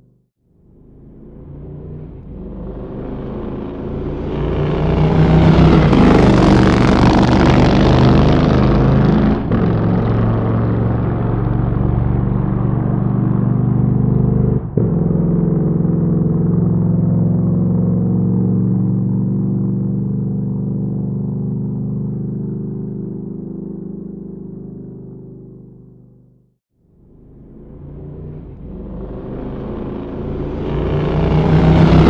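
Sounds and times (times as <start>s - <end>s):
motorcycle engine running hard: 0.6s - 26.4s, 27.1s - 32.0s.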